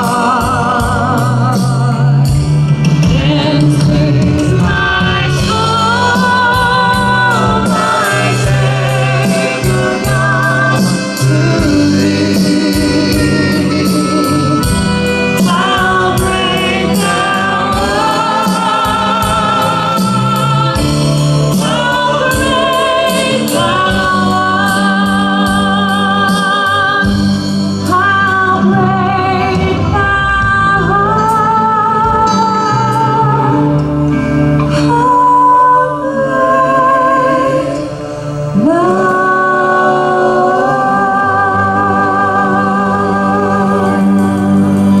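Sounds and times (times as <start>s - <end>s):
choir singing gospel song: 0.0s - 45.0s
live band accompaniment: 0.0s - 45.0s.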